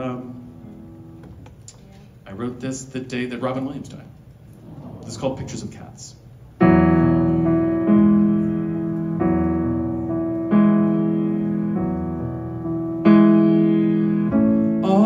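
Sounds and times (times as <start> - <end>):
grand piano chords: 0.0 - 1.7, 4.6 - 15.0.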